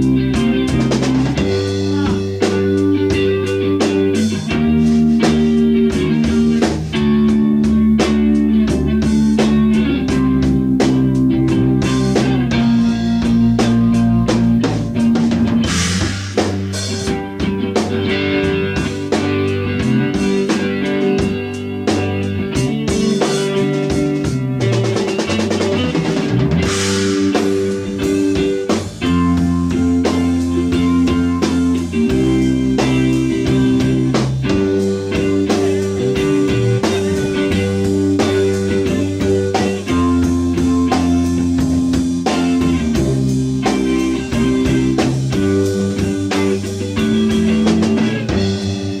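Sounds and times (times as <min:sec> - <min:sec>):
drum kit beat: 0:00.0 - 0:49.0
rock blues guitar music: 0:00.0 - 0:49.0.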